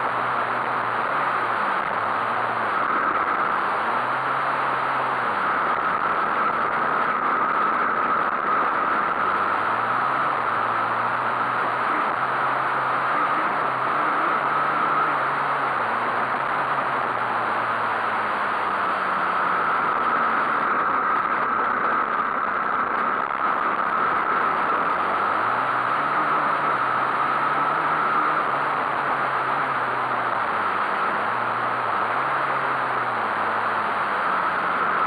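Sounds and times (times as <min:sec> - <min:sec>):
small motorbike engine revving: 0:00.0 - 0:35.0.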